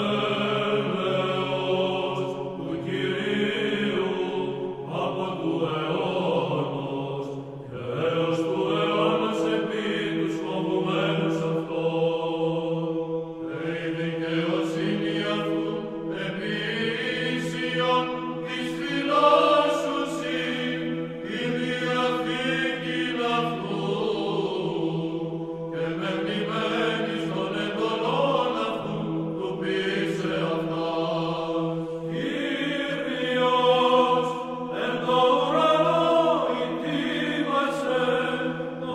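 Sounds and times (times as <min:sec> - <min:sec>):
voices chanting a slow melody: 0:00.0 - 0:38.9.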